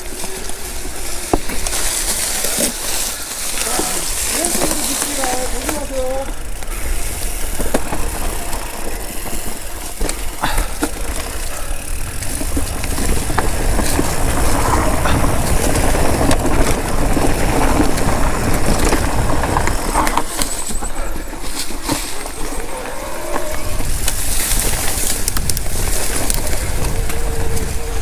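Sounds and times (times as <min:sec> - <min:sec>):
bike rattling over bumps: 0:00.0 - 0:28.0
bike tyres rolling and skidding on dirt: 0:00.0 - 0:28.0
wind rumble on microphone: 0:03.6 - 0:28.0.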